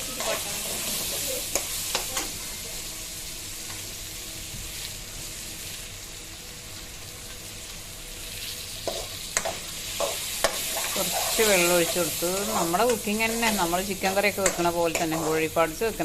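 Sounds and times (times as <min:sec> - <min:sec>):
spices sizzling in a pan: 0:00.0 - 0:16.0.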